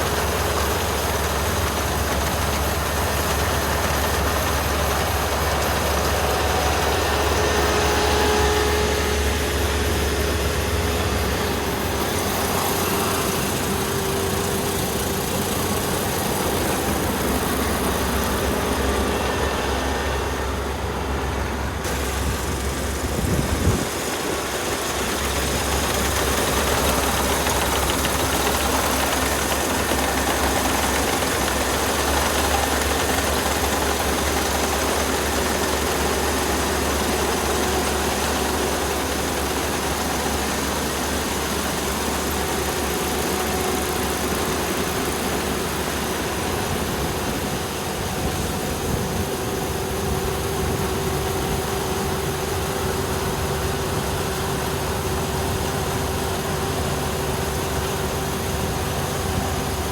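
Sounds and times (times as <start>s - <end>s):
combine harvester engine droning: 0.0s - 59.9s
machinery rumbling: 0.0s - 59.9s.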